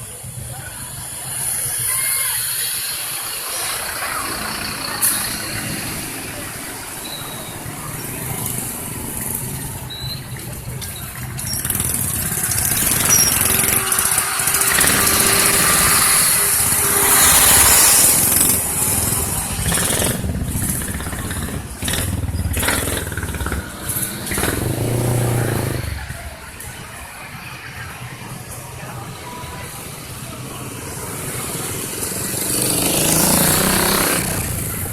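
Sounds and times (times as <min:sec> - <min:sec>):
bus passing: 0:00.0 - 0:34.9.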